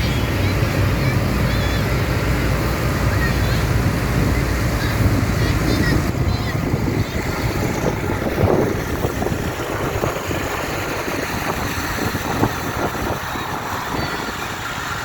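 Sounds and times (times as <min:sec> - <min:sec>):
tractor engine rumbling: 0:00.0 - 0:15.0.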